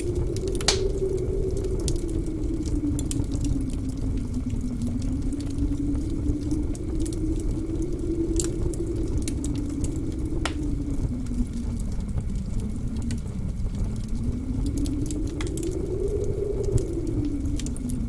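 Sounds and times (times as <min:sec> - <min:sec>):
blizzard wind howling: 0:00.0 - 0:18.0
low rumble: 0:00.0 - 0:18.0
wood fire crackling: 0:00.0 - 0:18.0.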